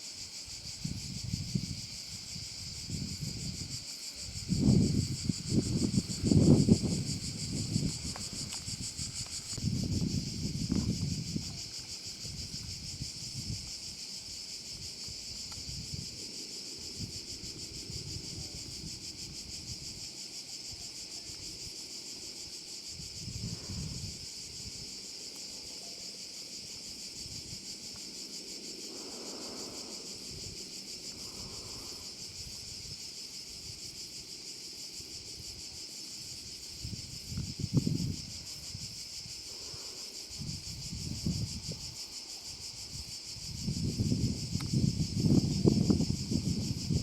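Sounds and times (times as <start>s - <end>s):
insects chirring: 0.0s - 47.0s
wind buffeting the microphone: 0.3s - 25.1s, 26.5s - 47.0s.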